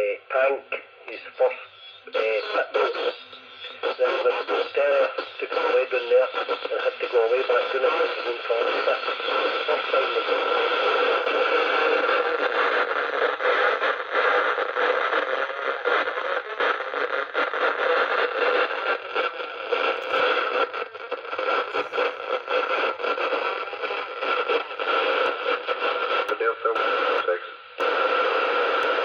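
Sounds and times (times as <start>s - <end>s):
radio static hiss and crackle: 0.0s - 29.0s.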